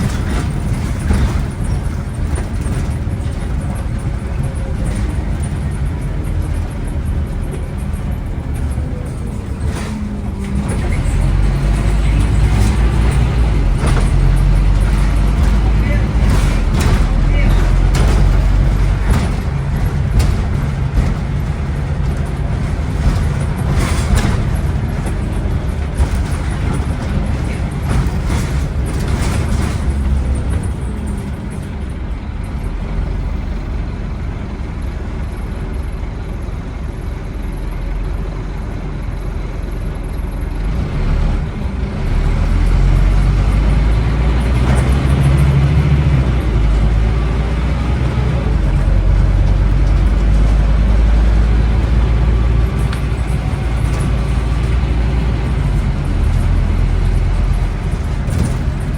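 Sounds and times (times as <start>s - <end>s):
knocks and rattles: 0.0s - 33.7s, 40.6s - 58.9s
bus diesel engine: 0.0s - 58.9s.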